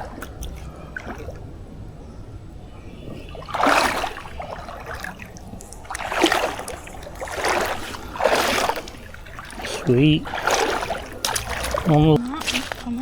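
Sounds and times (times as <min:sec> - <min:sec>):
water splashing beside a canoe: 0:00.0 - 0:13.0.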